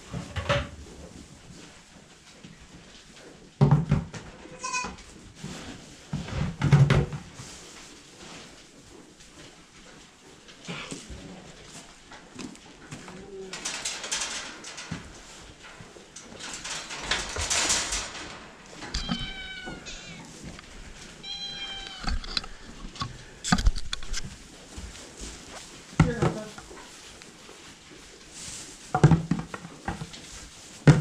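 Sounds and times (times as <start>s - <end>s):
rustling: 0.0s - 31.0s.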